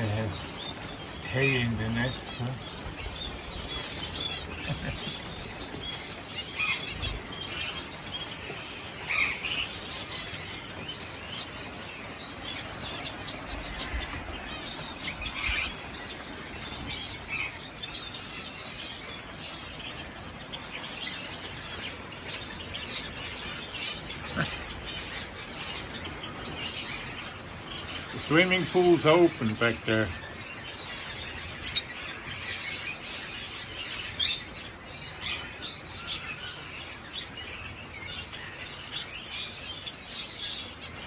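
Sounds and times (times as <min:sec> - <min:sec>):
weaver birds chirping: 0:00.0 - 0:41.0.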